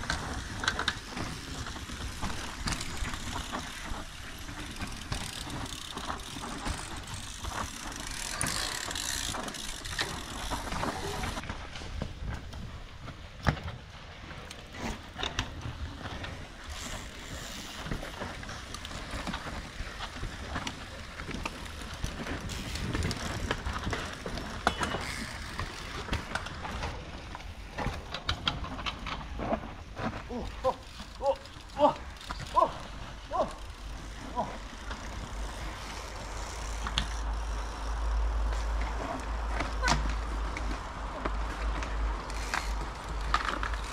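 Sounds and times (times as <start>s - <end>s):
bike freewheel hubs ticking: 0.0s - 11.4s, 16.6s - 26.9s, 30.3s - 43.9s
bike chains rattling: 0.0s - 11.5s, 14.6s - 43.9s
tyres on loose soil: 0.0s - 43.9s.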